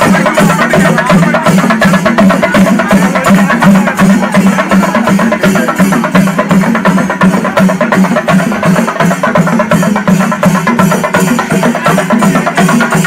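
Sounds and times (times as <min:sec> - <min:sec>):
fast drumming: 0:00.0 - 0:13.0.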